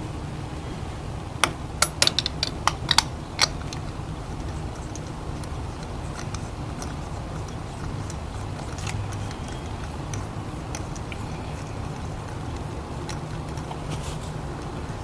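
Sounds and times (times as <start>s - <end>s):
car engine idling: 0.0s - 15.0s
light irregular ticks: 1.4s - 15.0s.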